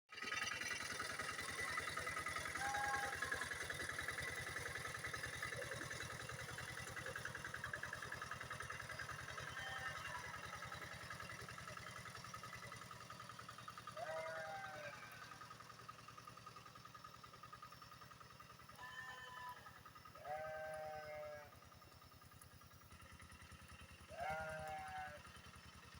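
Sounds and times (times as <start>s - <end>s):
diesel engine chugging: 0.1s - 25.9s.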